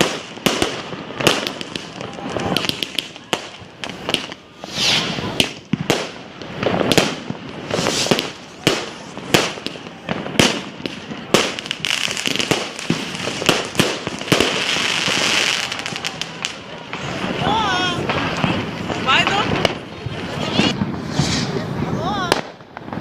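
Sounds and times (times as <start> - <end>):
firework bangs: 0.0 - 23.0
firework crackling: 0.0 - 23.0.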